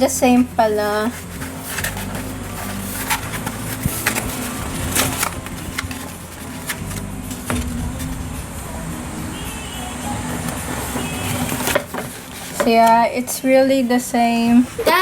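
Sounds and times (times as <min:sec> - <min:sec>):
paper crinkling: 0:00.0 - 0:08.3, 0:10.0 - 0:14.4
steady low hum: 0:00.0 - 0:14.5.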